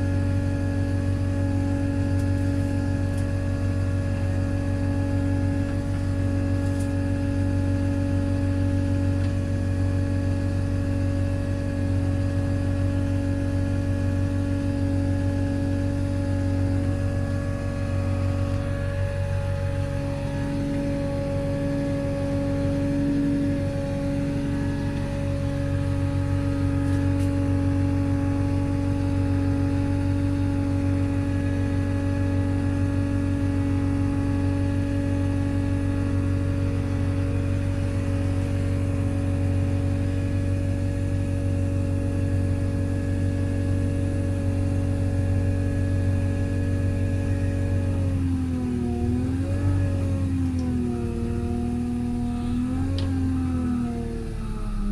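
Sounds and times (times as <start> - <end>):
diesel engine humming: 0.0 - 44.7, 46.4 - 54.9.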